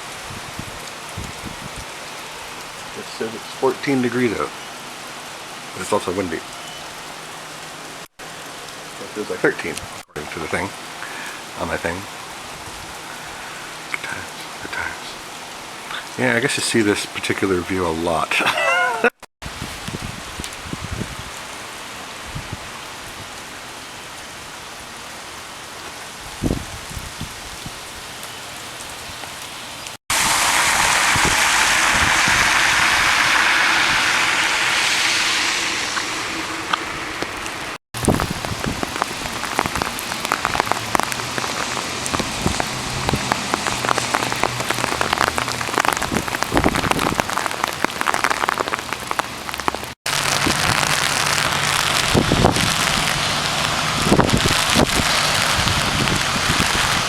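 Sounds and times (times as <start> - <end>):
rain pattering: 0.0 - 57.0
rushing downpour: 0.0 - 57.0.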